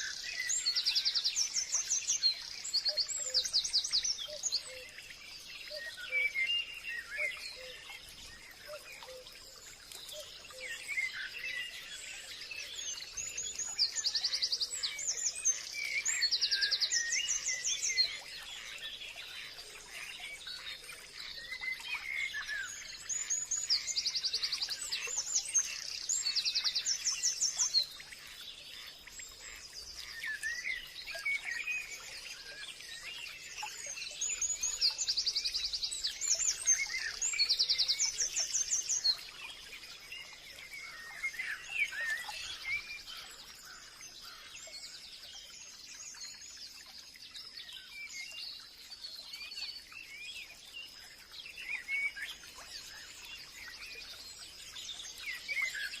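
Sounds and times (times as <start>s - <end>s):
birds singing and chirping: 0.0s - 56.0s.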